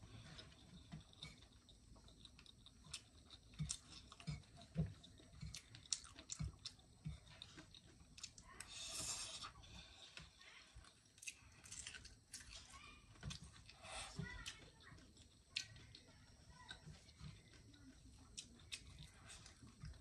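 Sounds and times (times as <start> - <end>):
wet chewing of noodles: 0.0 - 20.0.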